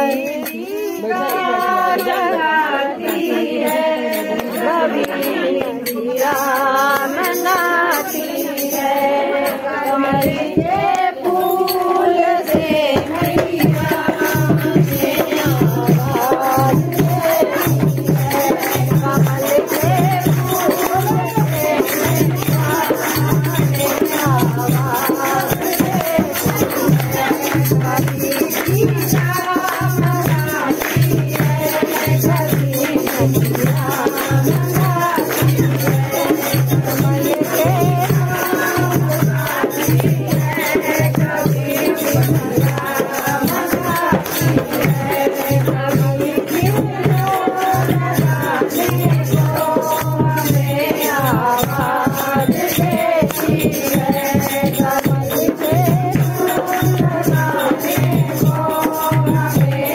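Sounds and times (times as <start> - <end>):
person singing a melody: 0.0 - 59.9
rattling hand percussion: 0.0 - 59.9.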